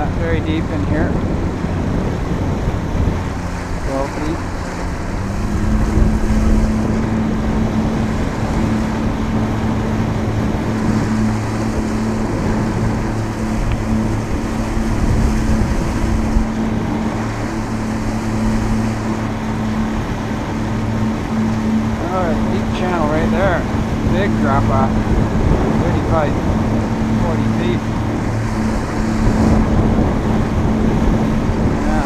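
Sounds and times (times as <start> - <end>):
outboard motor running: 0.0 - 32.0
water rushing against hull: 0.0 - 32.0
wind buffeting microphone: 0.0 - 32.0.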